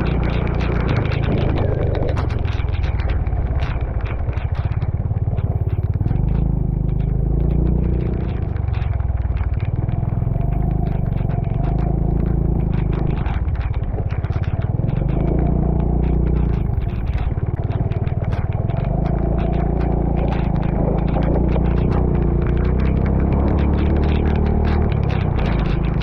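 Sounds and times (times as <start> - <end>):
motorcycle engine running: 0.0 - 26.0
rattles and knocks on rough road: 0.0 - 26.0.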